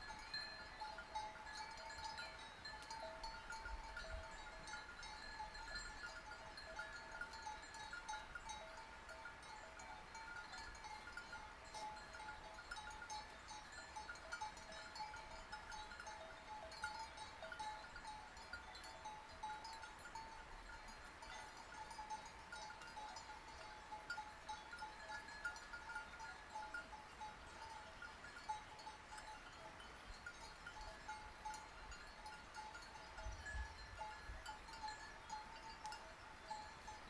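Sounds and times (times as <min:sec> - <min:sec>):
sheep bells clanking: 0:00.0 - 0:37.0.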